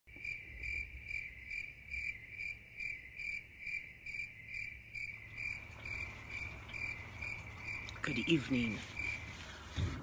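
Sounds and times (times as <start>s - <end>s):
crickets chirping: 0.1s - 9.8s.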